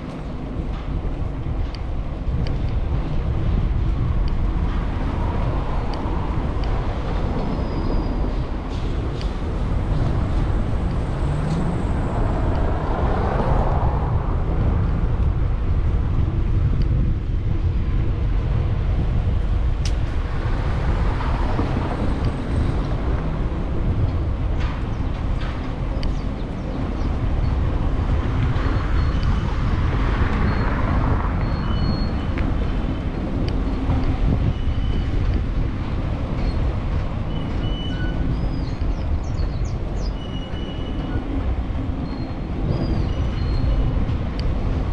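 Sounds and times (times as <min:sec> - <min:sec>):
street traffic: 0:00.0 - 0:44.9
wind and road noise: 0:00.0 - 0:44.9.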